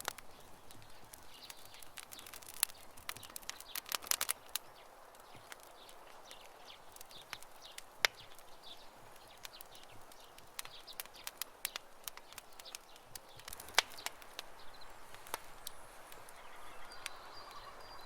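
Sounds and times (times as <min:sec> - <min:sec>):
campfire crackling and popping: 0:00.0 - 0:18.0
faint birds chirping: 0:00.0 - 0:18.0.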